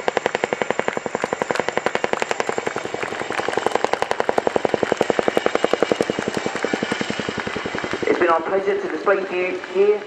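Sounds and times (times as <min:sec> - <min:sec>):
helicopter rotor blades thudding: 0:00.0 - 0:10.0.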